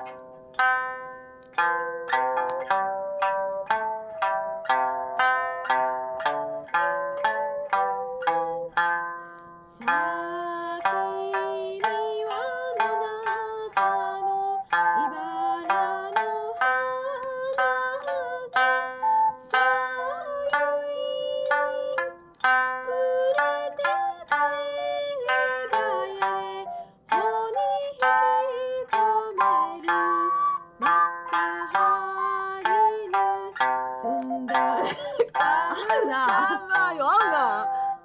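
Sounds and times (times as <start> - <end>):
plucked lute folk melody: 0.0 - 38.0.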